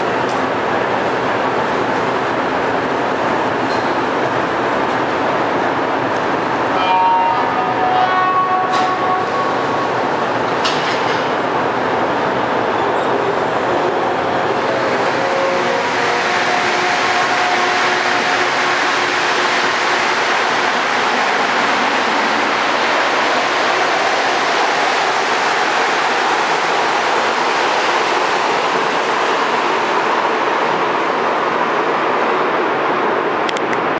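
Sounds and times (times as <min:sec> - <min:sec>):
metro train running noise: 0:00.0 - 0:33.9.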